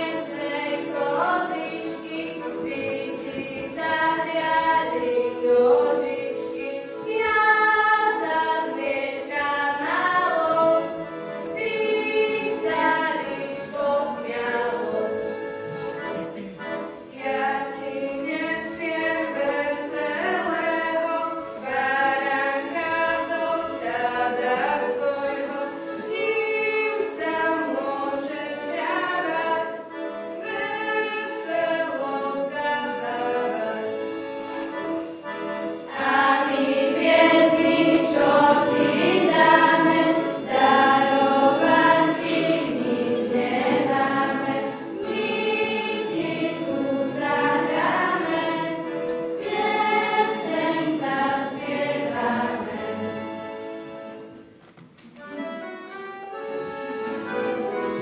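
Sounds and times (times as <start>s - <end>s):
choir of women and girls singing: 0.0s - 16.2s, 17.1s - 34.0s, 35.9s - 53.6s.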